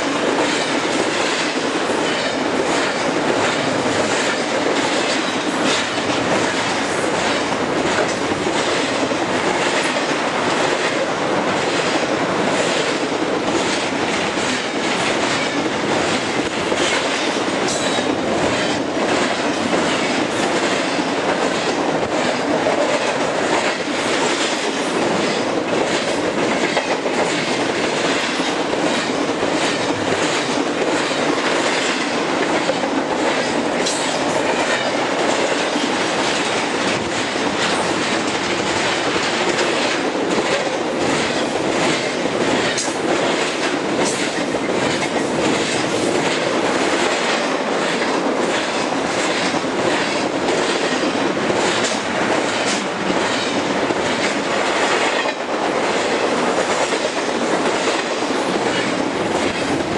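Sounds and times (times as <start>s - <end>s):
freight train rattling past: 0.0s - 59.9s
wheels clacking over rail joints: 0.0s - 59.9s.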